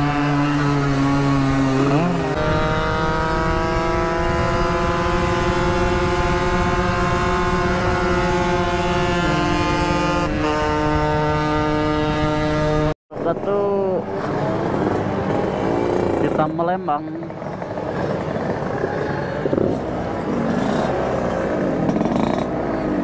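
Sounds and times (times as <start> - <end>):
two-stroke motorcycle engine: 0.0 - 23.0.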